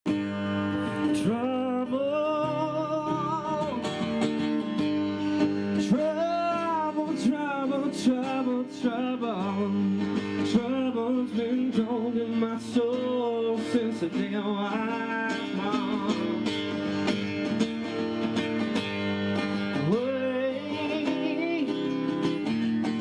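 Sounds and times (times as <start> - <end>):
acoustic guitar chords: 0.0 - 23.0
person singing with vibrato: 0.1 - 4.4, 5.1 - 17.0, 19.7 - 22.5.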